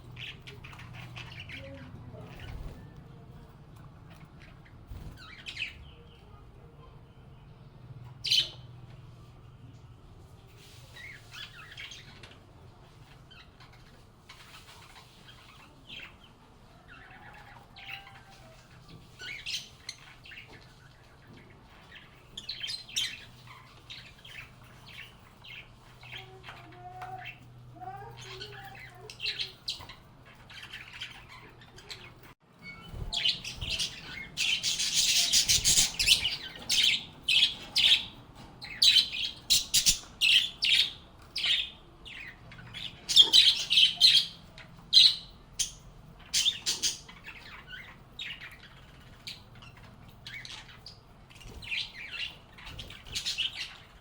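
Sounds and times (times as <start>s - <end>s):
birds chirping and squawking: 0.0s - 9.4s, 10.4s - 54.0s.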